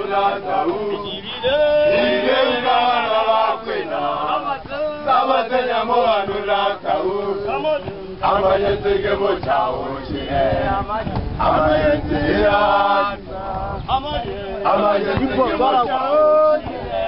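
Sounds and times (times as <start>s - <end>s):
men chanting and singing: 0.0s - 17.0s.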